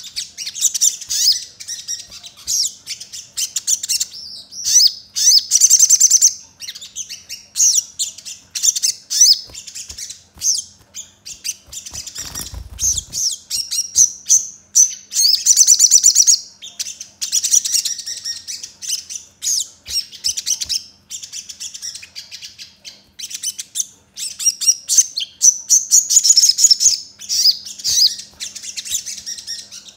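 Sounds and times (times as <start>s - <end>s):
bird chirping and twittering: 0.0s - 29.9s.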